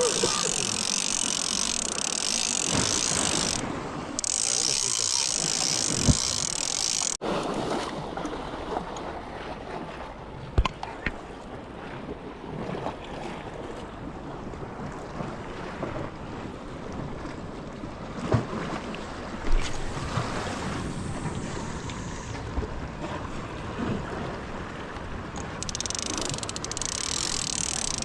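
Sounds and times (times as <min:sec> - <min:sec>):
surf on a rocky shore: 0:00.0 - 0:28.0.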